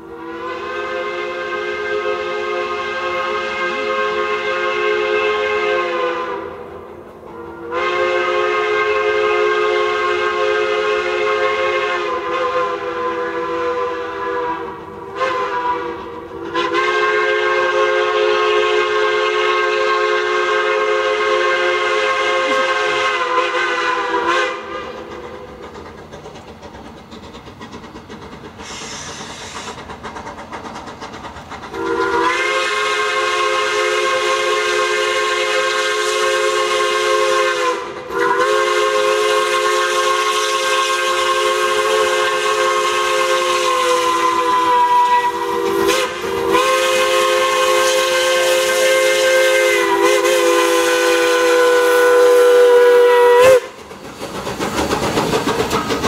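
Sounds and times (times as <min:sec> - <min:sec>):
steam locomotive chime whistle: 0:00.0 - 0:25.0, 0:28.6 - 0:29.7, 0:31.8 - 0:53.8.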